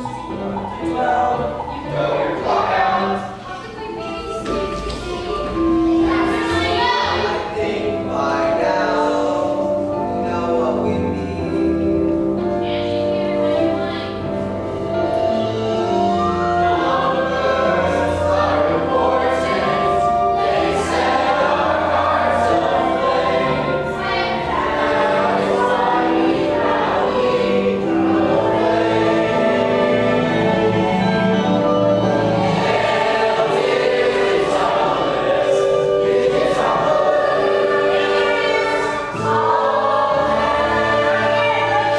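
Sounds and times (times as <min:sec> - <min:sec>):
group singing in chorus: 0:00.0 - 0:03.5, 0:04.4 - 0:09.8, 0:15.0 - 0:41.9.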